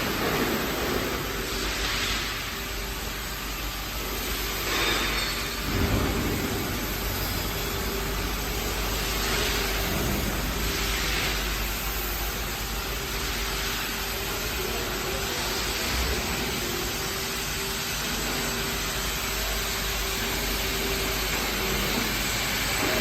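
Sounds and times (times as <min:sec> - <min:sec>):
machinery hissing: 0:00.0 - 0:23.0.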